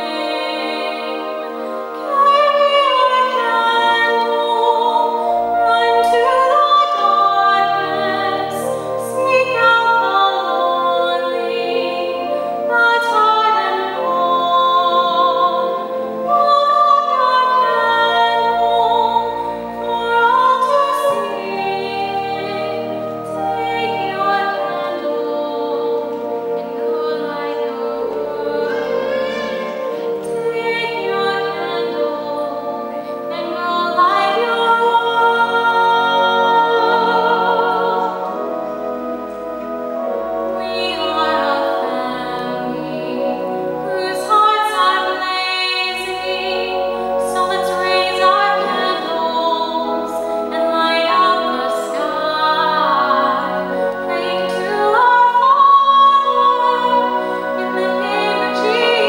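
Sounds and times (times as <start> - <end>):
woman singing gospel: 0.0 - 38.7, 39.8 - 59.0
pipe organ chords: 0.0 - 59.0.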